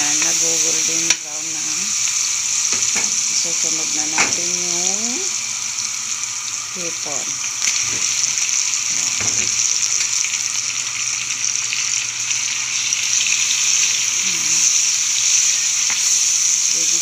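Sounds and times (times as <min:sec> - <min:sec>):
shrimp sizzling in hot oil: 0:00.0 - 0:17.0.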